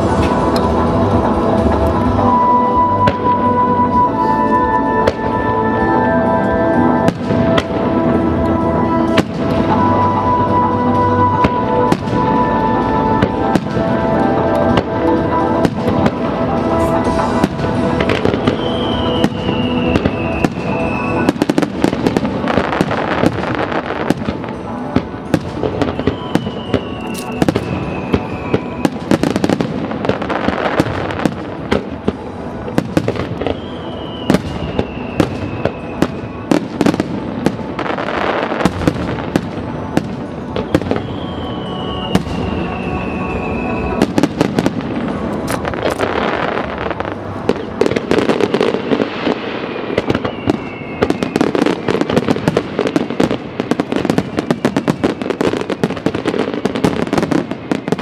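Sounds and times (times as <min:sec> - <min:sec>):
fireworks bursting: 0:00.0 - 0:58.0
fireworks crackling: 0:00.0 - 0:58.0
falling firework whistle: 0:09.0 - 0:24.4, 0:25.2 - 0:31.9, 0:32.8 - 0:58.0.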